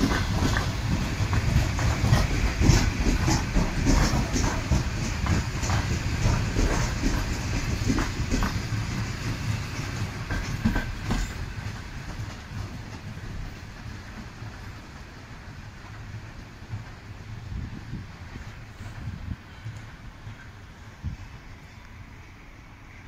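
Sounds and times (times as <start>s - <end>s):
wheels clicking over rail joints: 0.0s - 20.7s
electric train rolling past: 0.0s - 23.0s.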